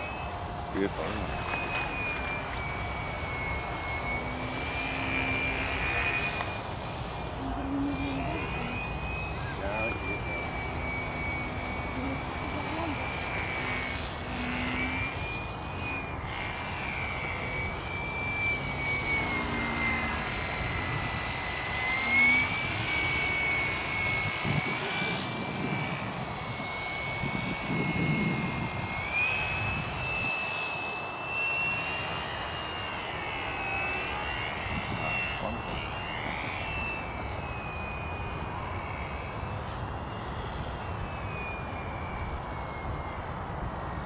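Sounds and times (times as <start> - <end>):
model airplane motor whining: 0.0 - 44.0.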